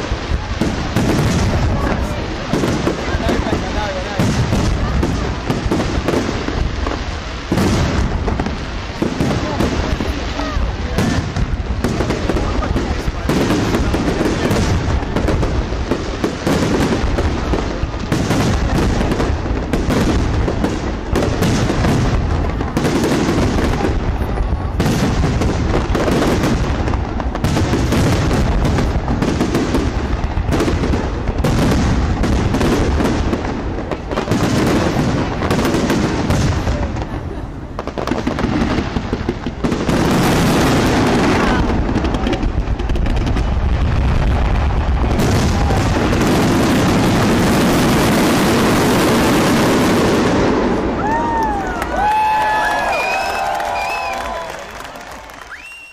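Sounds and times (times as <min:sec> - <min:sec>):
fireworks bursts and bangs: 0:00.0 - 0:55.9.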